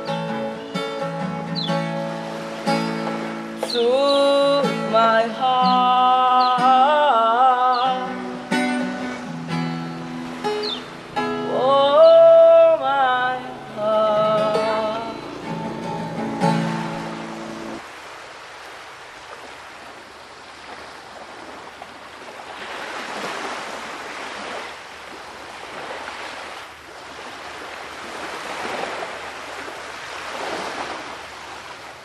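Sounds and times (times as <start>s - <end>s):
sea waves washing: 0.0s - 32.0s.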